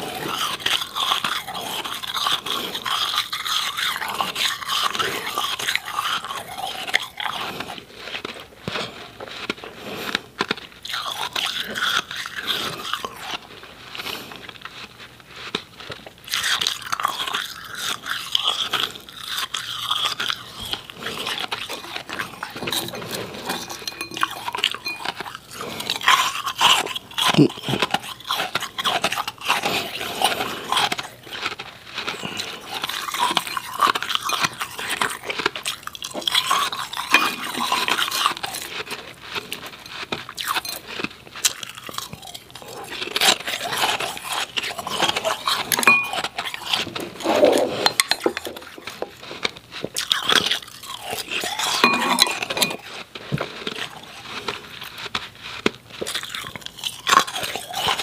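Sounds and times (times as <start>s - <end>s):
ice being crunched and chewed: 0.0s - 58.0s.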